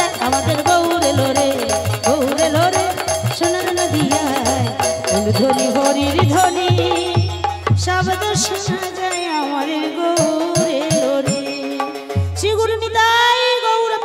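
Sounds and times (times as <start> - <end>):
devotional music with drums: 0.0 - 14.0.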